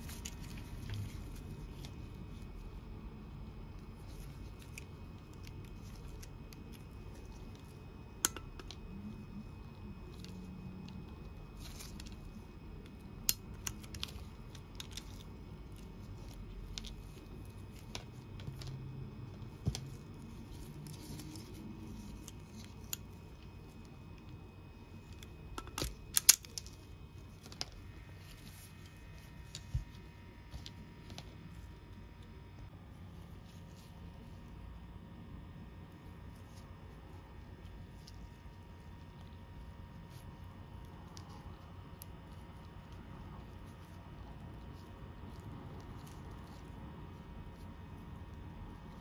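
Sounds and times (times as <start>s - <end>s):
low background hum: 0.0s - 49.0s.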